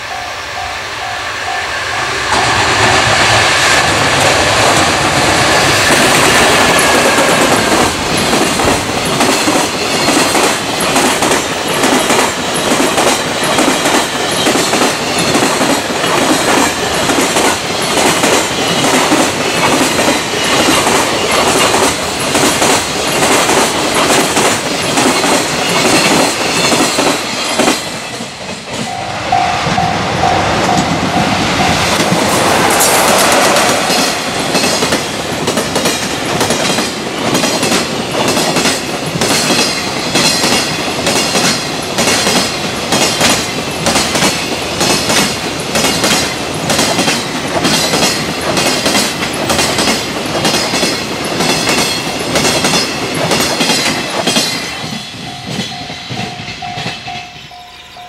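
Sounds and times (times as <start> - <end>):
train wheels clattering: 2.0 - 57.6.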